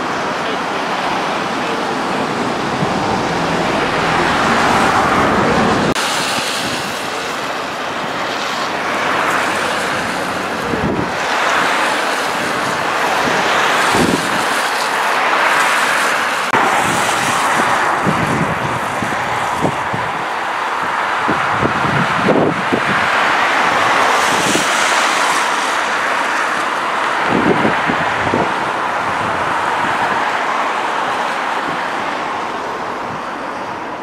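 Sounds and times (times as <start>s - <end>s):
fast-flowing floodwater: 0.0s - 34.0s
wind buffeting microphone: 1.0s - 34.0s
wind rushing: 1.1s - 30.6s.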